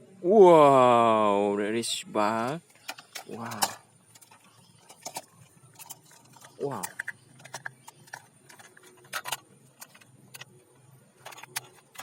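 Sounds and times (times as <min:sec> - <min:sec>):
toys clicking and knocking: 0:02.4 - 0:12.0.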